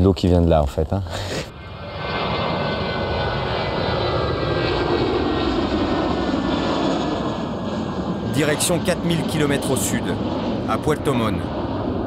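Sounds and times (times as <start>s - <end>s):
jet airliner engine roar: 1.0s - 12.0s.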